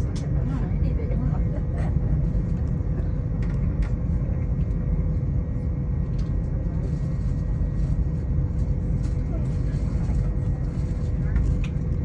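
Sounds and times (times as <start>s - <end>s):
faint hum: 0.0s - 12.0s
train rumble from inside: 0.0s - 12.0s.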